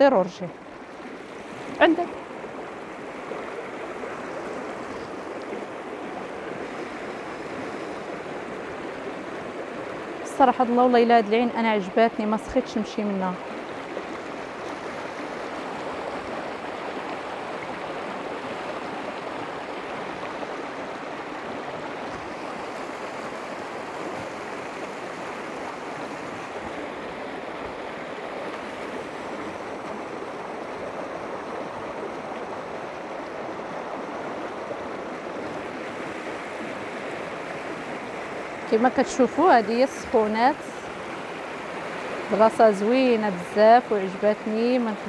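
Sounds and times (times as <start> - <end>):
water rushing over rocks: 0.0 - 45.0.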